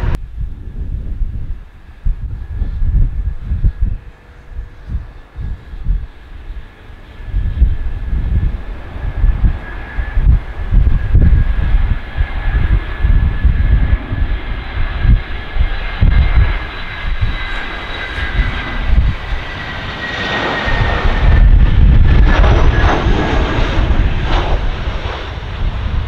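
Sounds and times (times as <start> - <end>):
jet engines high whine: 0.0 - 26.0
wind buffeting microphone: 0.0 - 26.0.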